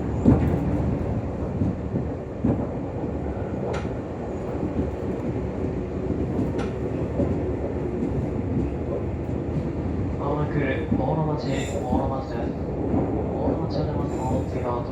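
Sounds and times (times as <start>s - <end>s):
train interior low rumble: 0.0s - 14.9s.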